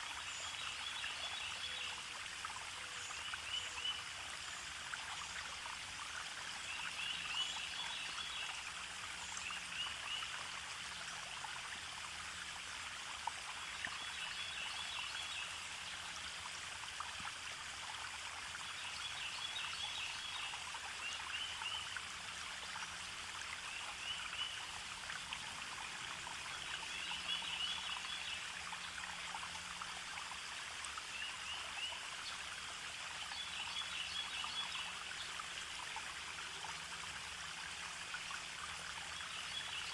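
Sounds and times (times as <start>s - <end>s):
forest stream trickling: 0.0s - 39.9s.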